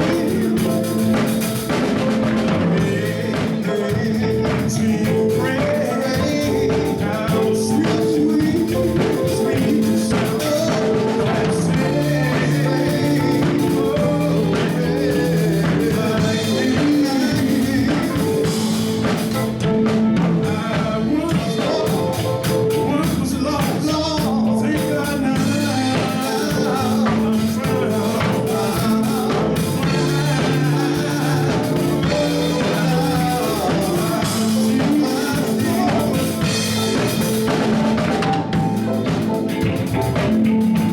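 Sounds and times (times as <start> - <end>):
live band music: 0.0 - 40.9
person singing: 0.0 - 40.9.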